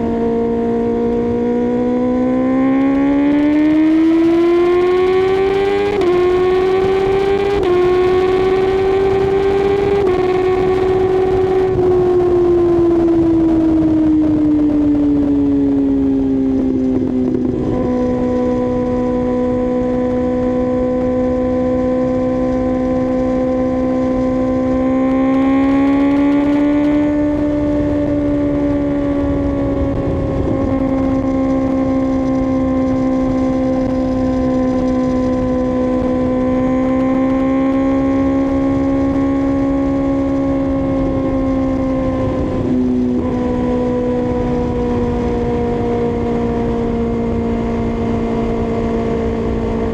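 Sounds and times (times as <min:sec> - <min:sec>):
motorcycle engine cruising: 0:00.0 - 0:49.9.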